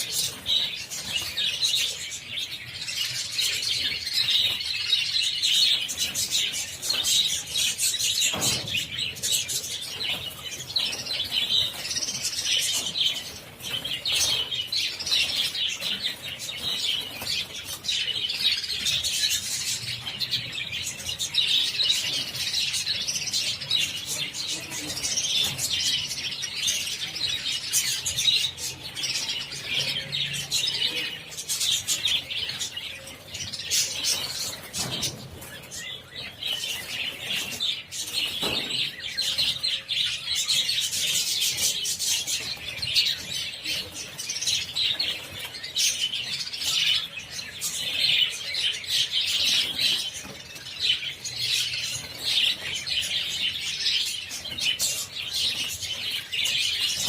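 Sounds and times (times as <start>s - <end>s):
flock of birds chattering: 0.0s - 57.0s.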